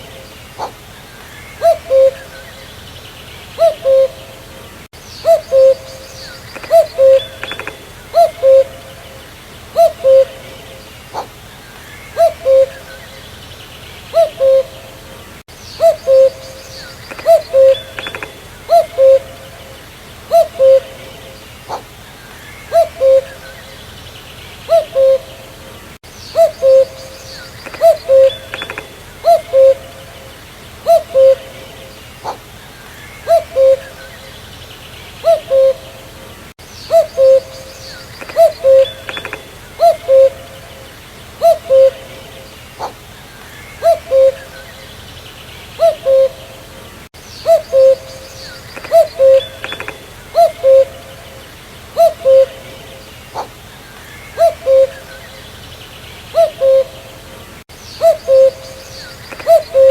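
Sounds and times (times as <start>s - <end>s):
cuckoo calling: 0.0s - 2.8s, 3.5s - 13.4s, 14.1s - 23.9s, 24.7s - 34.5s, 35.2s - 45.0s, 45.7s - 55.6s, 56.3s - 59.9s
small birds chirping: 0.0s - 59.9s.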